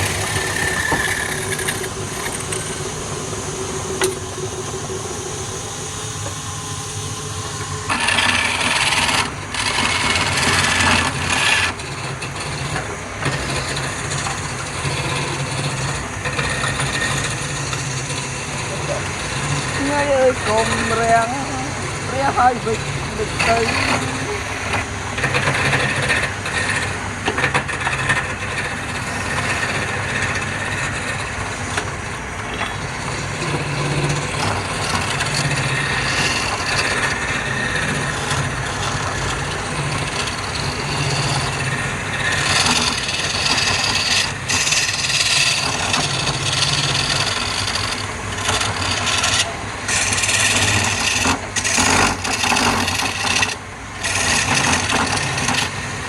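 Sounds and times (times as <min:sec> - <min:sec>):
tool scraping spinning wood: 0:00.0 - 0:56.0
wood lathe motor hum: 0:00.0 - 0:56.0.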